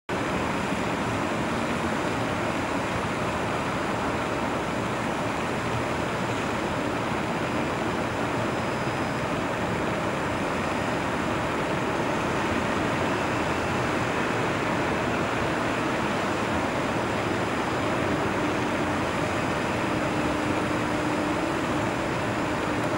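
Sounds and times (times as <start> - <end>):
distant city traffic roar: 0.1 - 22.9.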